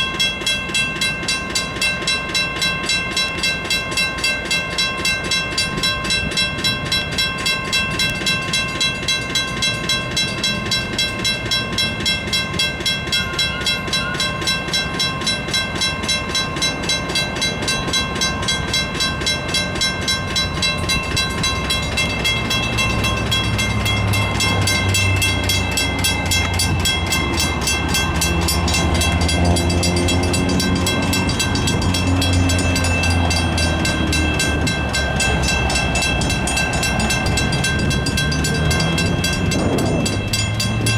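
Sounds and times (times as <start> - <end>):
diesel locomotive engine rumble: 0.0 - 40.9
electronic crossing bell ringing: 0.0 - 40.9.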